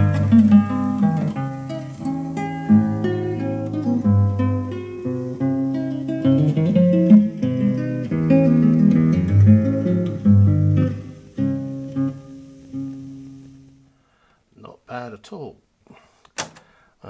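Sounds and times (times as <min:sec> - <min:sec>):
plucked guitar music on a speaker: 0:00.0 - 0:13.9.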